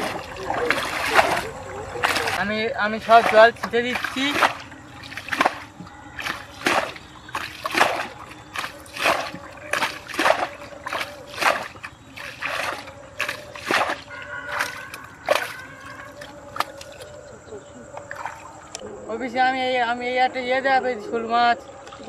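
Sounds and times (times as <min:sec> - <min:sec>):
water scooped and splashed: 0:00.0 - 0:17.3, 0:18.0 - 0:18.8.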